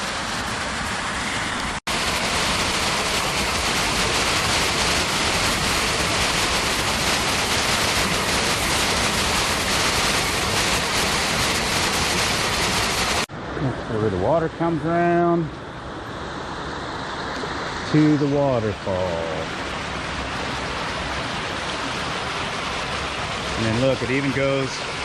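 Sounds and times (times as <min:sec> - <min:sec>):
waterfall splashing: 0:00.0 - 0:15.2, 0:15.8 - 0:25.0.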